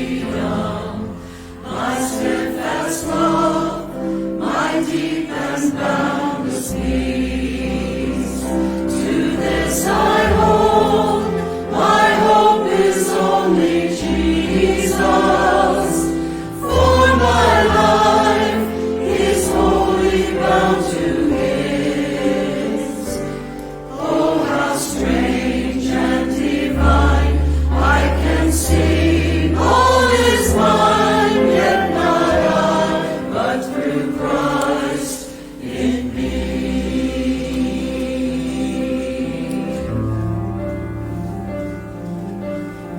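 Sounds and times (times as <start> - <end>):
choir singing a hymn: 0.0 - 42.9
low held accompaniment notes: 0.0 - 42.9.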